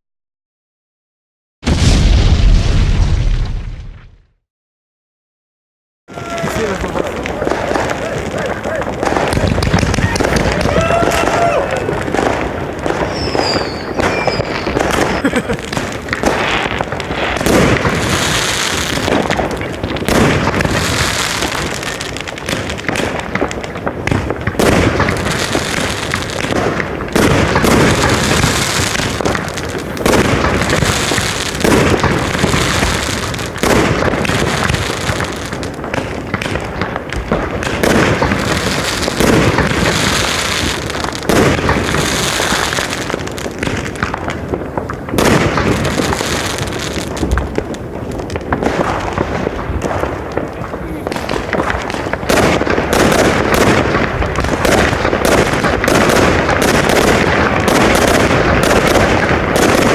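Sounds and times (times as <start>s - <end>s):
fireworks shots and bangs: 1.6s - 4.4s, 6.1s - 59.9s
fireworks crackling: 6.1s - 59.9s.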